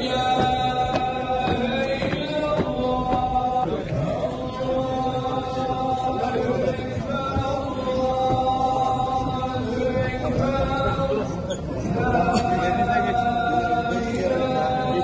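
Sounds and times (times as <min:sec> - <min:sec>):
many voices chanting: 0:00.0 - 0:15.0.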